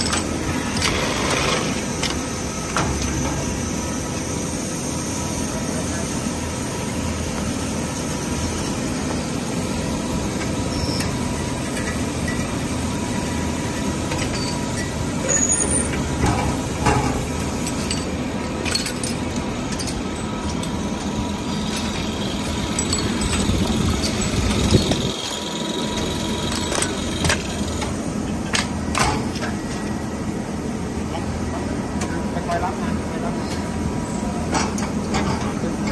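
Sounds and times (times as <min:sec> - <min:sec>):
lathe machine hum with whine: 0:00.0 - 0:28.9.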